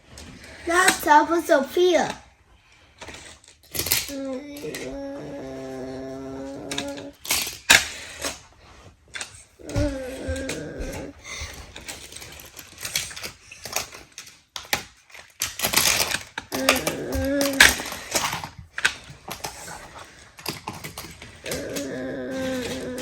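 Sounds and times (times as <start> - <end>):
plastic toy cars clattering: 0.0 - 23.0.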